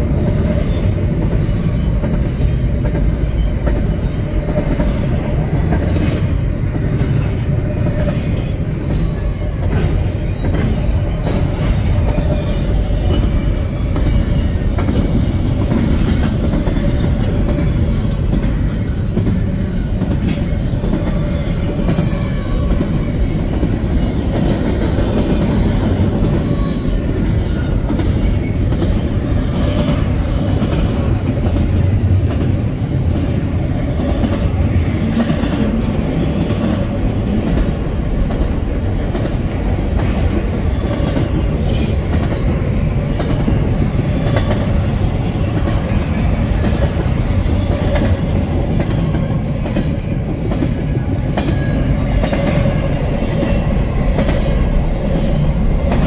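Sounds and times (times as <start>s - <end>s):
rail clicks: 0.0s - 56.0s
train wheels rumbling on rail: 0.0s - 56.0s.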